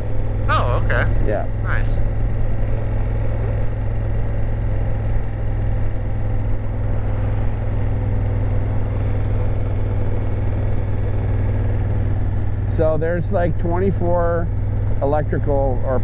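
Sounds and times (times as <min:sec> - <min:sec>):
motorcycle engine running: 0:00.0 - 0:16.0
road noise: 0:00.0 - 0:16.0.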